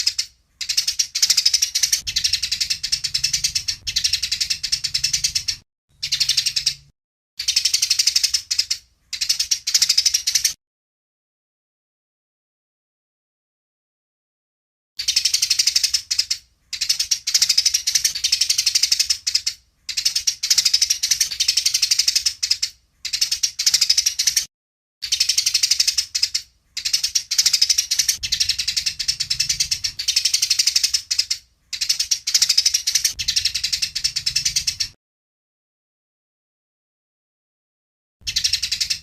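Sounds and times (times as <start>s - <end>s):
sparrow chattering: 0.0s - 10.6s, 15.0s - 35.0s, 38.2s - 39.0s.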